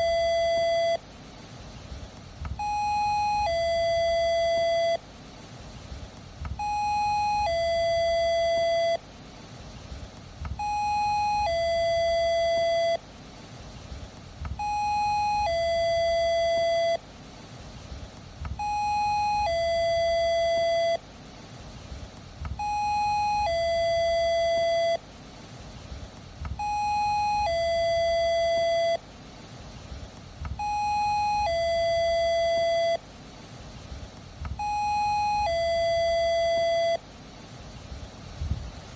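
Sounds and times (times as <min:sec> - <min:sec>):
faint low rumble: 0:00.0 - 0:38.9.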